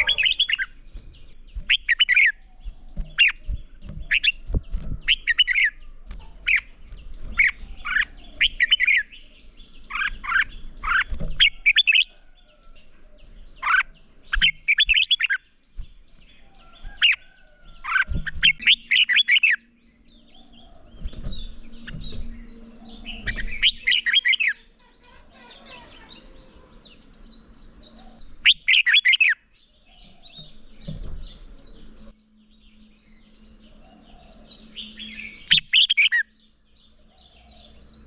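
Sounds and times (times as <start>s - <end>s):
bulbuls chattering song: 0.0s - 38.0s.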